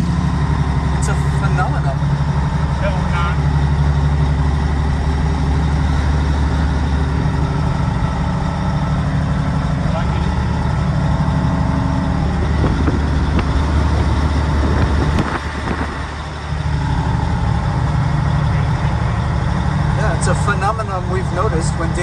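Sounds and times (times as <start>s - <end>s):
road noise inside cab: 0.0s - 22.0s
truck diesel engine pulling: 0.0s - 22.0s.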